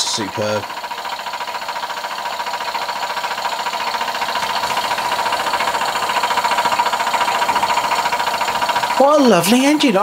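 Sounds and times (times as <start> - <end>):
model steam engine chuffing: 0.0 - 10.0.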